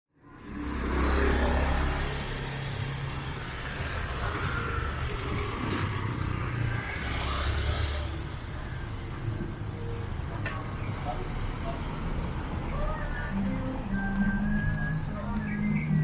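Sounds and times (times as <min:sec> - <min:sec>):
low road noise hum: 0:00.2 - 0:16.0
passing vehicle engines: 0:00.2 - 0:16.0.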